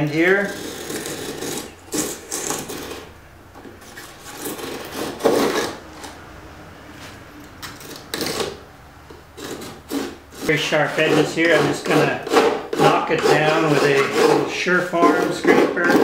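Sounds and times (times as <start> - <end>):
knife scraping fiberglass: 0.0 - 6.2, 7.7 - 8.6, 9.4 - 16.0.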